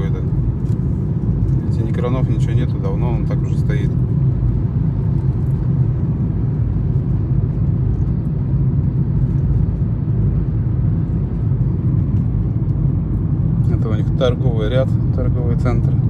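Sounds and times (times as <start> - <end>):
car engine and tyre noise inside: 0.0 - 16.0.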